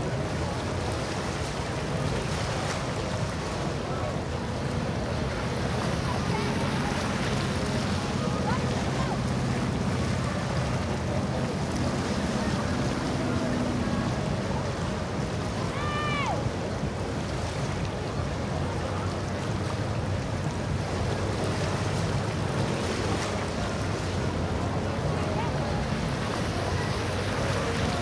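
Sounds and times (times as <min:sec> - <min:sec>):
boat engines running: 0:00.0 - 0:28.0
water sloshing: 0:00.0 - 0:28.0.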